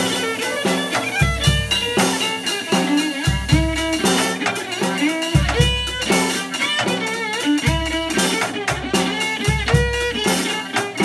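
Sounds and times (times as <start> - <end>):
drum kit with cymbal hits: 0.0 - 11.0
electric violin melody: 0.0 - 11.0
plucked low string line: 0.0 - 11.0.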